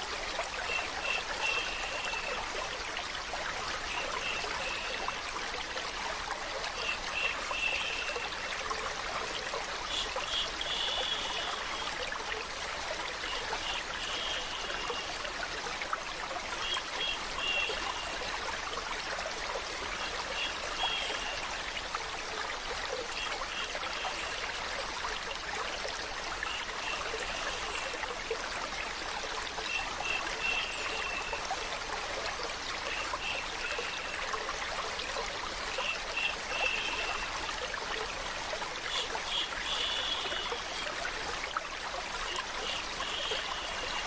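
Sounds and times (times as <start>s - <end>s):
water trickling: 0.0s - 44.0s.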